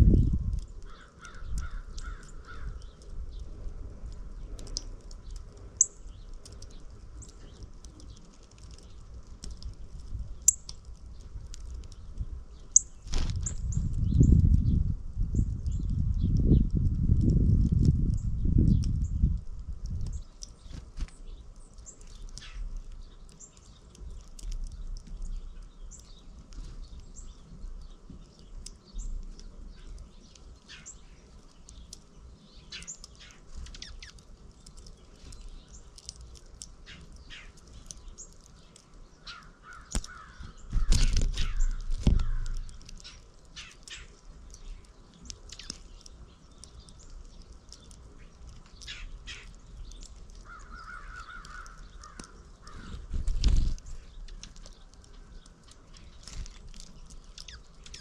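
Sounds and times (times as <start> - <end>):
birds chirping: 0.0 - 14.8, 20.0 - 58.0.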